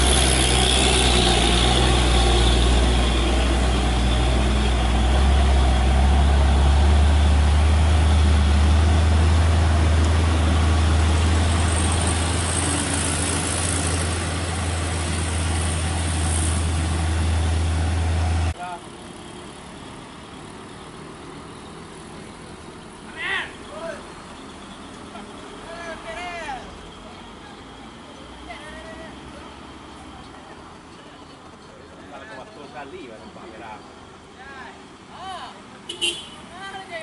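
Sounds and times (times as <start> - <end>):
truck diesel engines droning: 0.0 - 37.0.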